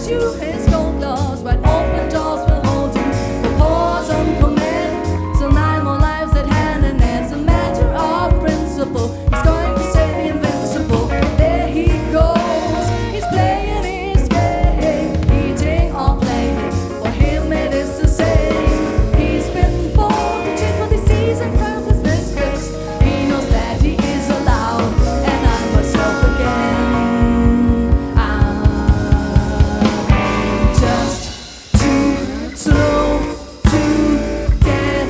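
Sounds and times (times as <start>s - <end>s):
double bass: 0.0s - 35.0s
drum kit: 0.0s - 35.0s
guitar: 0.0s - 35.0s
piano: 0.0s - 35.0s.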